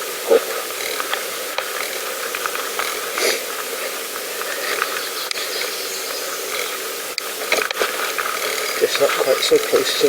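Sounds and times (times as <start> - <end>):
bicycle tyres hissing: 0.0 - 10.0
bike rattles and clicks: 0.3 - 10.0.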